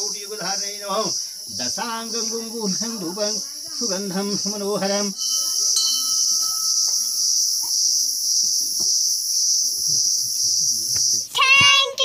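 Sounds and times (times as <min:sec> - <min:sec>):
shrill insect chorus: 0:00.0 - 0:12.0.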